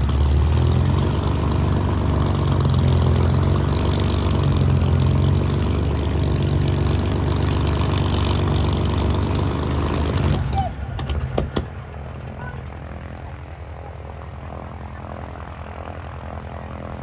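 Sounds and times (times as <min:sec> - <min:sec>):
aircraft piston engine droning: 0:00.0 - 0:17.0
propeller noise: 0:00.0 - 0:17.0.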